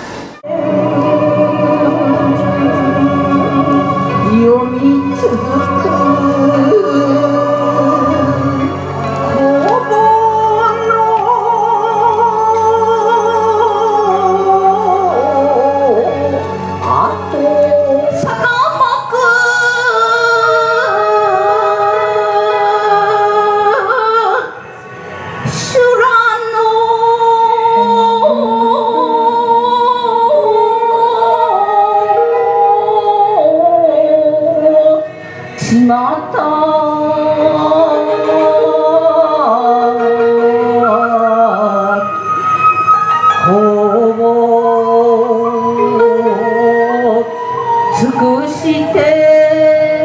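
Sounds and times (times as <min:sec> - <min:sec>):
background music with singing: 0:00.0 - 0:50.0.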